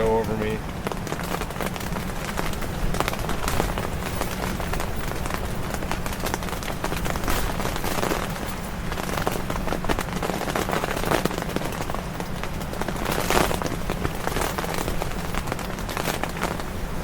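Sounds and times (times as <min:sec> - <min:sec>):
air conditioner humming: 0:00.0 - 0:17.0
rain tapping on tent fabric: 0:00.0 - 0:17.0.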